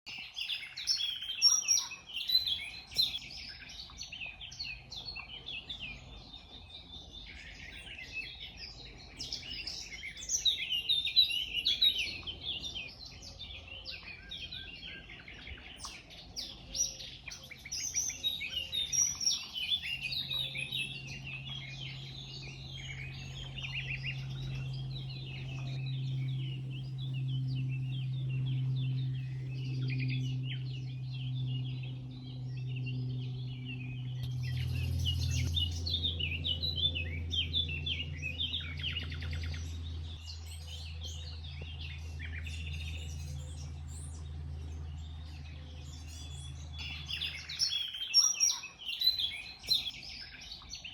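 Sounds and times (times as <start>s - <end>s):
birds chirping and singing: 0.1s - 50.9s
low hum: 2.2s - 48.1s.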